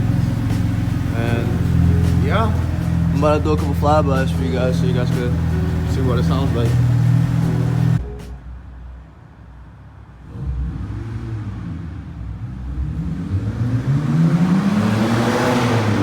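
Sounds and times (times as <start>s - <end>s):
car exhaust revving up: 0.0s - 8.0s, 10.2s - 16.0s.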